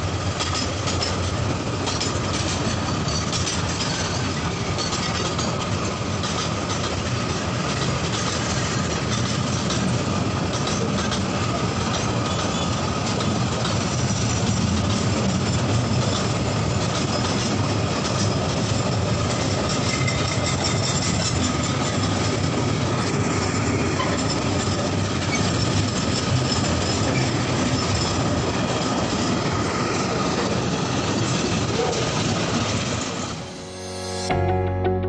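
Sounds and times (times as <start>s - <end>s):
clatter over rail joints: 0.0s - 33.3s
train wheels rumbling on rails: 0.0s - 33.5s.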